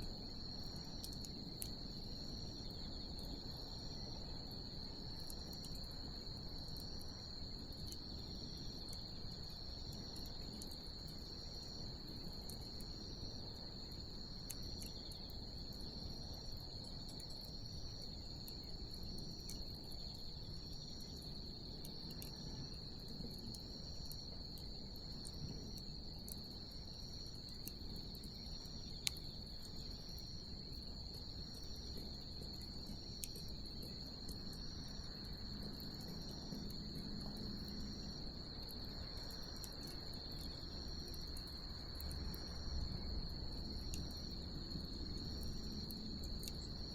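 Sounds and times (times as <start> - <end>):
bonfire hissing and crackling: 0.0 - 46.9
insect chirping rhythmically: 0.0 - 46.9
insects trilling: 0.0 - 46.9.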